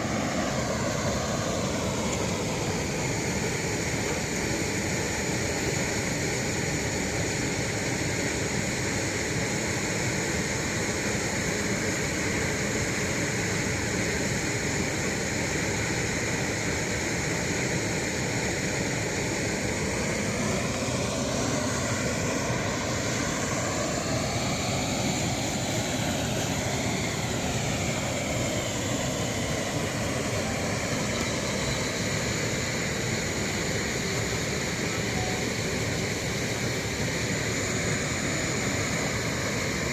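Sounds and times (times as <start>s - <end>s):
waterfall roaring: 0.0s - 12.0s, 17.8s - 39.9s.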